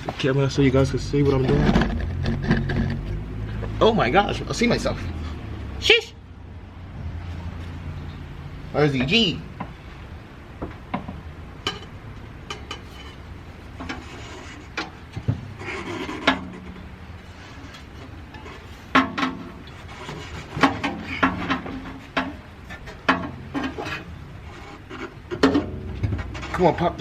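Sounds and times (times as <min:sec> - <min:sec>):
exhaust pipes clanking and scraping: 0:00.0 - 0:05.7, 0:07.0 - 0:27.0.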